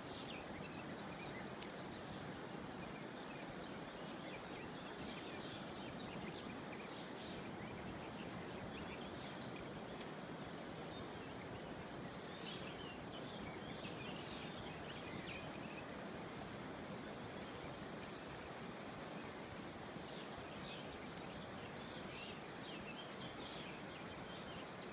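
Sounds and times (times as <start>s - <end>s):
river rushing: 0.0s - 24.9s
small birds chirping: 0.0s - 24.9s.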